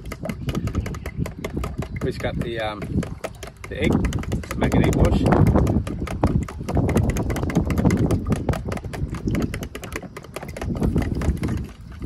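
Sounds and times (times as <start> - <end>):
fork whisking eggs in plastic: 0.0 - 12.0.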